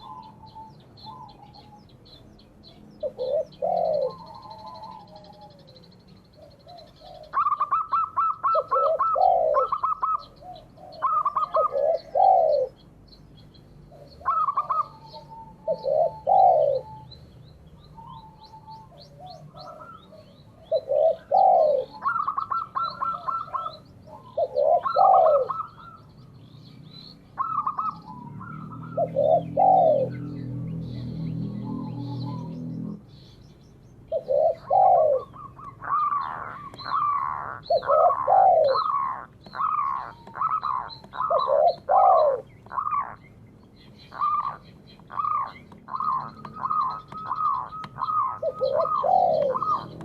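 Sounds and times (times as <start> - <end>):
doves cooing: 0.0 - 33.3, 34.1 - 50.0
small birds chirping: 0.0 - 50.0.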